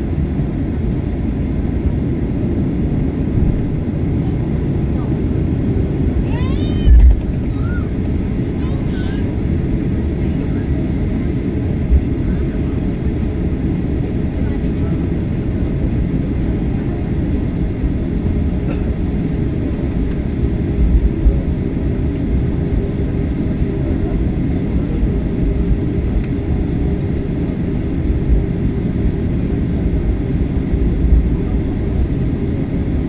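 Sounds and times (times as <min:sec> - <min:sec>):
jet engine rumble inside cabin: 0:00.0 - 0:33.0.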